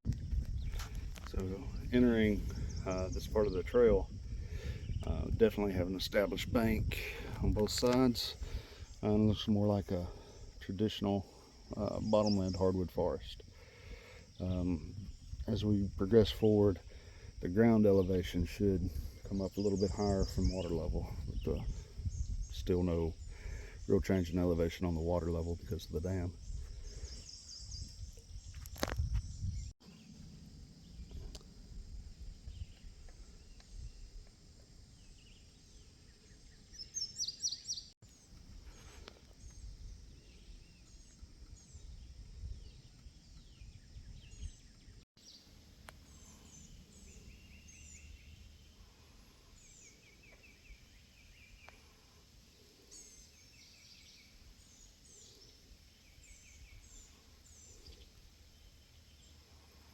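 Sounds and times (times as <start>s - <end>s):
birds chirping: 0.1s - 59.9s.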